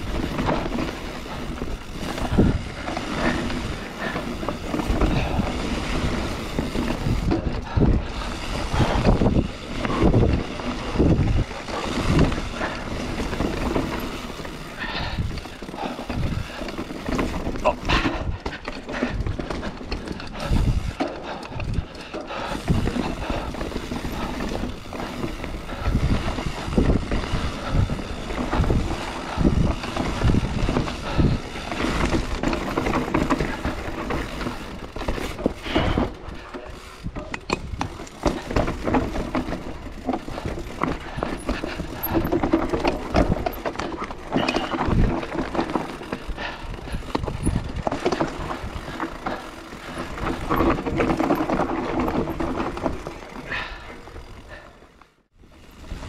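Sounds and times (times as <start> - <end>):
bike rattling over bumps: 0.0 - 56.0
bike tyres on dirt: 0.0 - 56.0.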